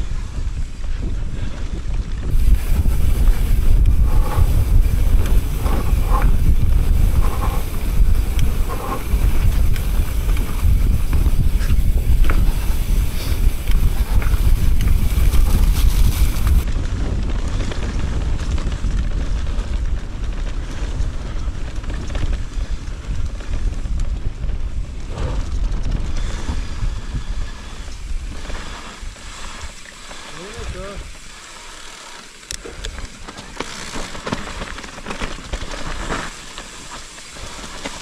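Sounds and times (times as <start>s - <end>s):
wind buffeting microphone: 0.0s - 33.5s
bike tyre noise: 0.0s - 38.0s.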